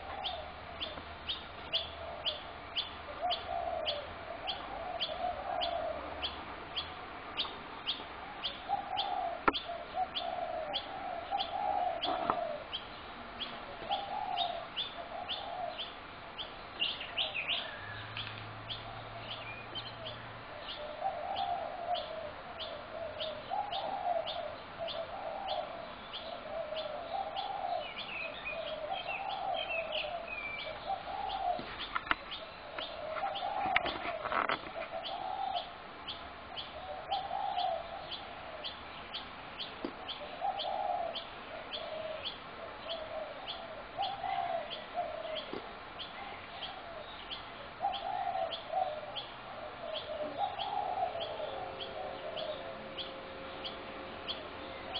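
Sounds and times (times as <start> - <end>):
doves cooing: 0.0 - 16.2, 16.8 - 54.9.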